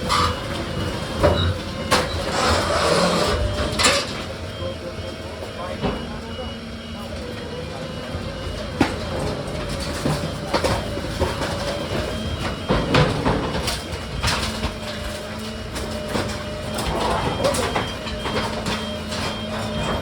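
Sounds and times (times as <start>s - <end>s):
heavy machine humming: 0.0s - 20.0s.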